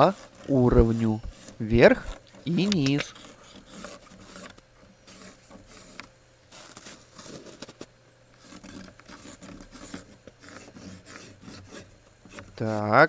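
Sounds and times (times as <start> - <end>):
small knocks: 0.0 - 12.6
scratching on wooden boards: 0.0 - 13.0.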